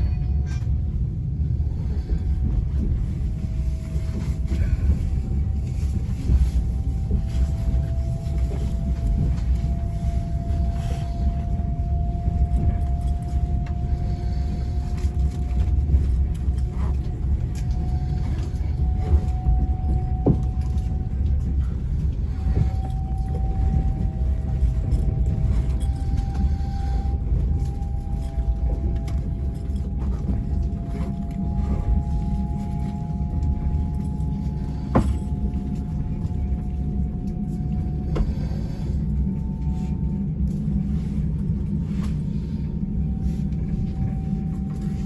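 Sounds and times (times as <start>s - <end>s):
faint whine rising in pitch: 0.0s - 45.0s
train rumble inside carriage: 0.0s - 45.0s.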